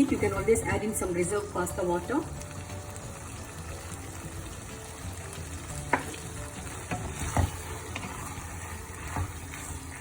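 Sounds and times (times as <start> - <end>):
pasta sizzling in a pan: 0.0 - 10.0.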